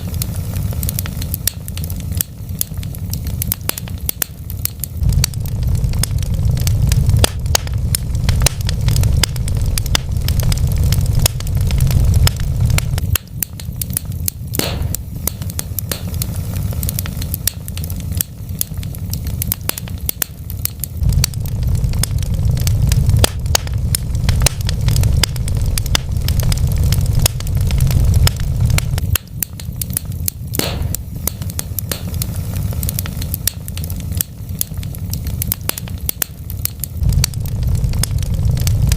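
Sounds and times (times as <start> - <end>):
low rumble: 0.0 - 38.9
wood fire crackling and popping: 0.0 - 38.9.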